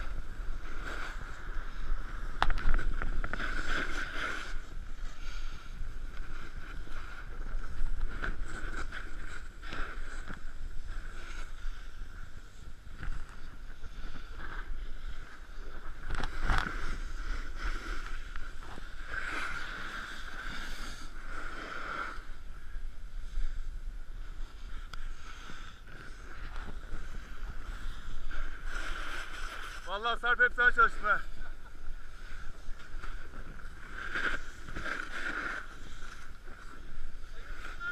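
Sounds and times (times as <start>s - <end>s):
snowboard scraping over snow: 0.0s - 37.9s.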